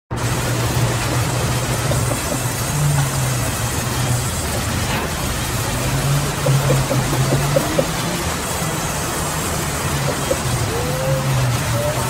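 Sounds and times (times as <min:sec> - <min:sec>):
band saw cutting log: 0:00.1 - 0:11.7.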